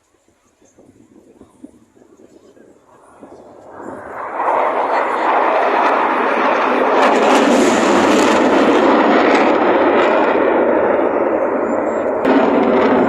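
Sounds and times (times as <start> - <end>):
military jet flying past: 0.7 - 13.0.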